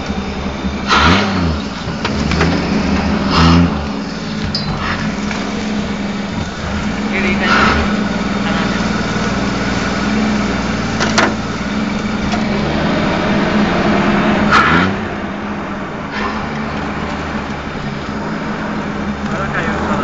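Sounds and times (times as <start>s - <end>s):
off-road engine running: 0.0s - 20.0s.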